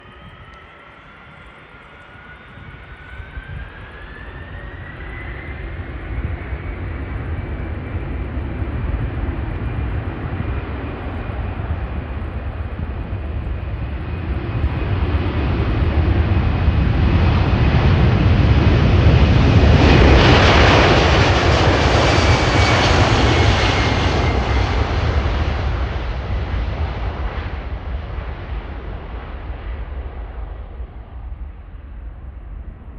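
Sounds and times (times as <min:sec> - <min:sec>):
jet airliner engines at takeoff: 0:00.0 - 0:32.9.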